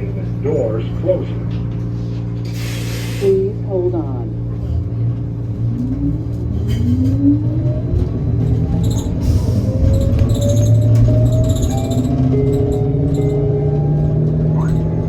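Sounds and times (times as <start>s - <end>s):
low rumble of running bus: 0.0s - 15.0s.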